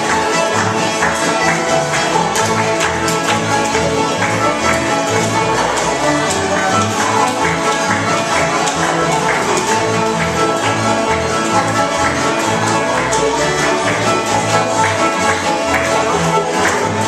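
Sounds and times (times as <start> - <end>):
fiddle lead: 0.0 - 17.0
mandolin: 0.0 - 17.0
strummed acoustic guitars: 0.0 - 17.0.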